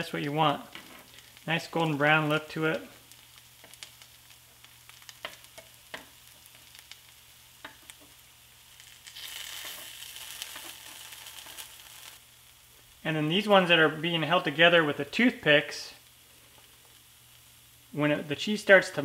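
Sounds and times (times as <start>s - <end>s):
butter sizzling in skillet: 0.0s - 19.0s.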